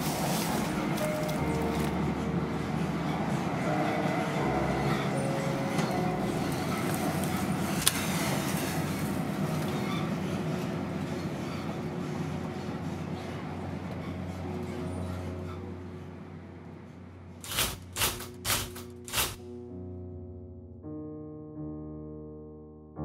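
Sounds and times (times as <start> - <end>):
train running on rails: 0.0 - 19.5.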